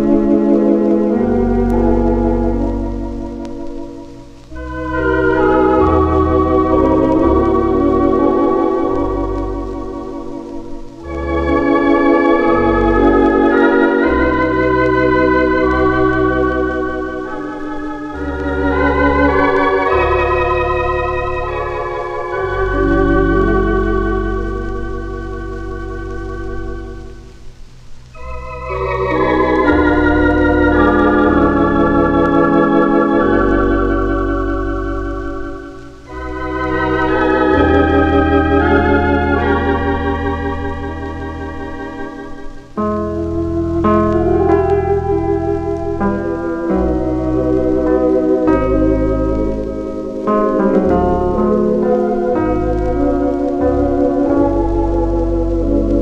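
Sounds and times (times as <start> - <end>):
organ playing slow hymn chords: 0.0 - 56.0.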